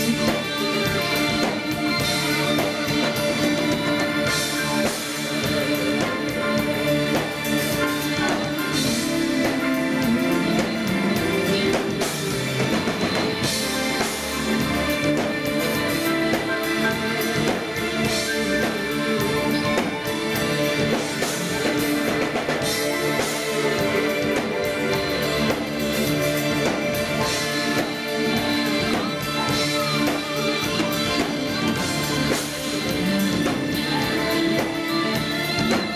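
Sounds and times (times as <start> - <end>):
drum kit and cymbals: 0.0 - 35.9.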